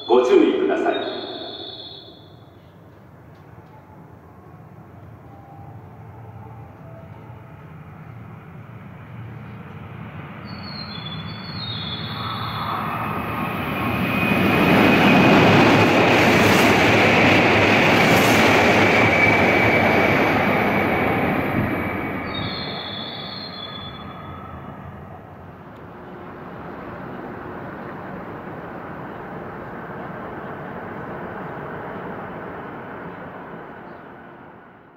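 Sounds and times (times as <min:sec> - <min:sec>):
bullet train passing at speed: 0:00.0 - 0:34.9.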